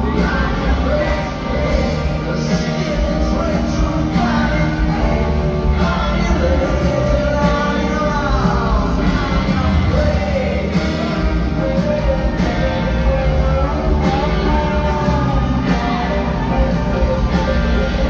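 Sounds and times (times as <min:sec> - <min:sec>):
electric guitar: 0:00.0 - 0:18.0
live rock band: 0:00.0 - 0:18.0
person singing: 0:00.0 - 0:18.0.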